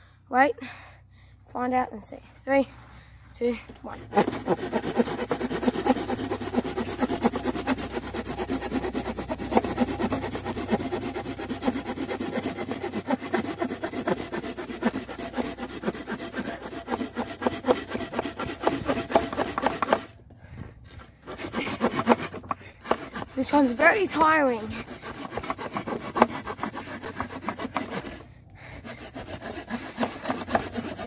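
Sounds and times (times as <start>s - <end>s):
hand saw cutting wood: 3.7s - 20.2s, 20.8s - 31.0s.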